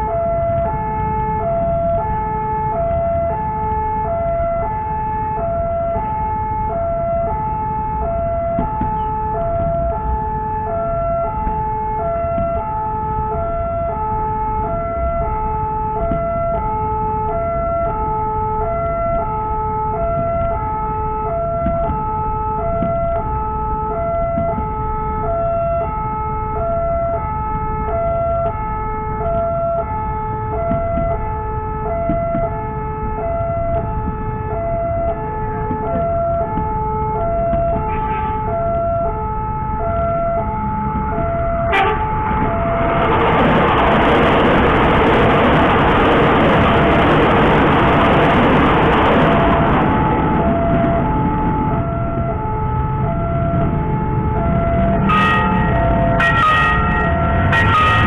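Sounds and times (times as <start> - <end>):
low rumble of road traffic: 0.0 - 58.0
level crossing two-tone alarm: 10.6 - 42.8, 43.4 - 58.0.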